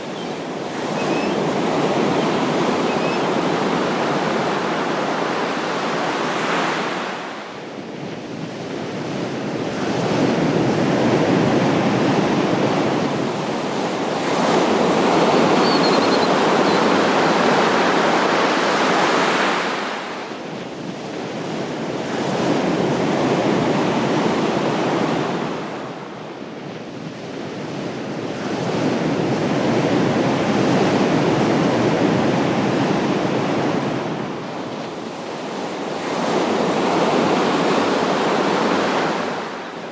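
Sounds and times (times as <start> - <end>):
ocean waves surging and washing: 0.0 - 39.9.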